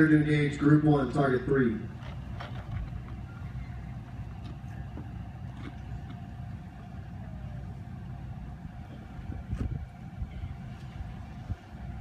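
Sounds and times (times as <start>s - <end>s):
engine idling: 0.0s - 12.0s
faint steady hum: 0.0s - 12.0s.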